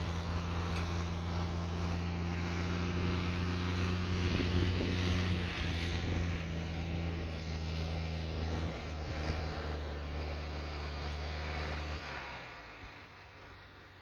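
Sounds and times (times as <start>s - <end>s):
diesel truck engine running: 0.0s - 11.8s.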